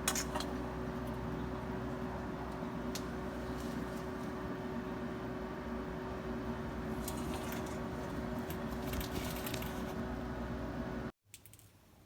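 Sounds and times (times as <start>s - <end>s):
machine hum: 0.0s - 11.1s.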